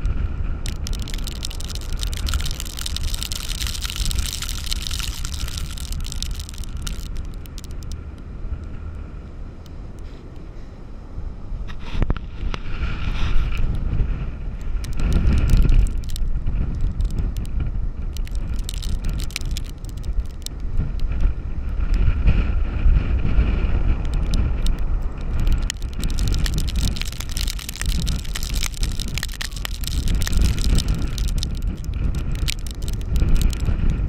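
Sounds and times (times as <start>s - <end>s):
scattered ticks: 0.0s - 9.0s, 13.3s - 22.4s, 23.8s - 34.0s
storm wind buffeting microphone: 0.0s - 10.0s, 11.1s - 34.0s.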